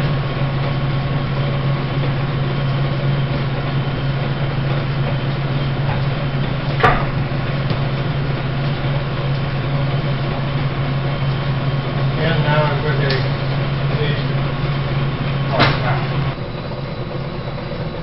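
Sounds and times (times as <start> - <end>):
metal planer humming: 0.0 - 18.0.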